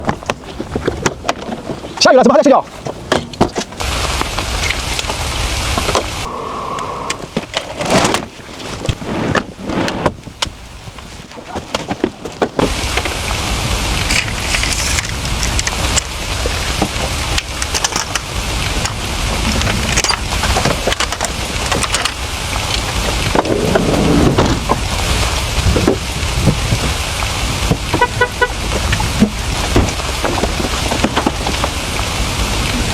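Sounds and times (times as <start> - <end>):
rain on a vehicle roof: 0.0 - 6.3, 9.9 - 32.9.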